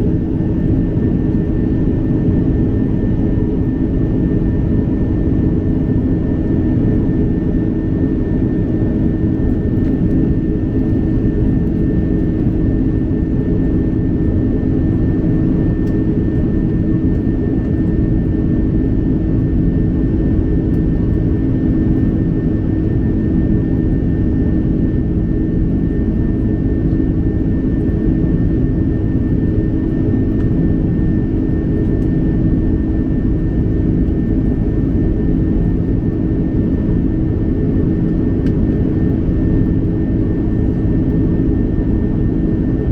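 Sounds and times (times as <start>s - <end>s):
constant hum: 0.0s - 42.9s
jet engine and airflow roar: 0.0s - 42.9s.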